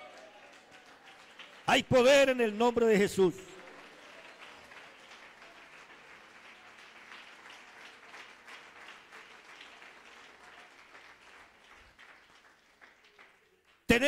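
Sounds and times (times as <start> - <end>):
faint crowd applause: 0.0 - 14.0.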